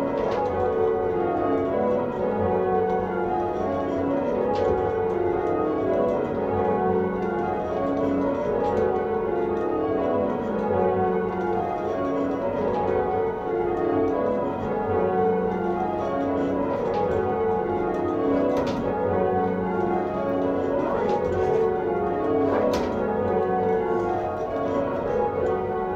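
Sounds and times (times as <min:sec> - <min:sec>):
church bells ringing: 0:00.0 - 0:25.9.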